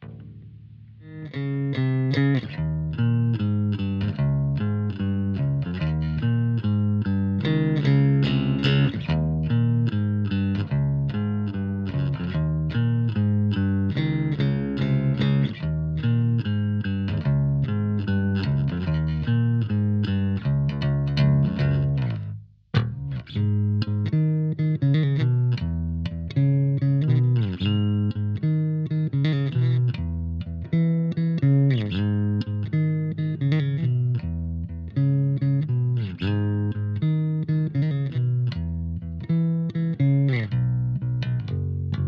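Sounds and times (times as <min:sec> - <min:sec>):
electric bass plucked notes: 0:00.0 - 0:42.0.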